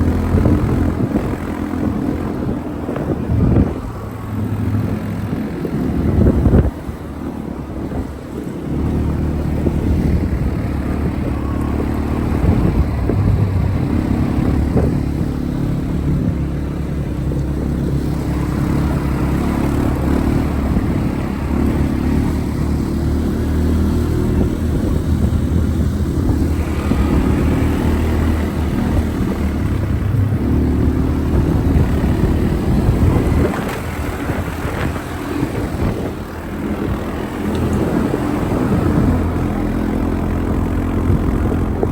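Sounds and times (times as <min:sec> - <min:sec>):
quad bike engine drone: 0:00.0 - 0:41.9.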